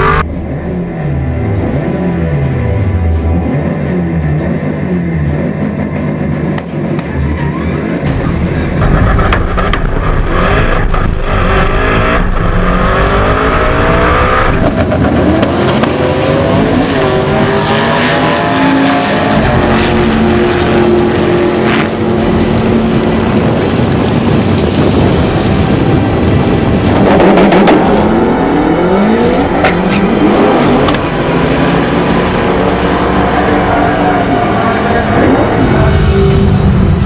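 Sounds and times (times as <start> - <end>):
turbocharged engine at full throttle: 0.0 - 37.0.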